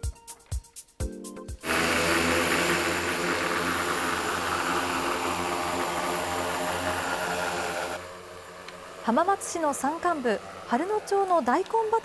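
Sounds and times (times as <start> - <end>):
drone rotor whir: 1.6 - 12.0
low hum: 1.6 - 12.0.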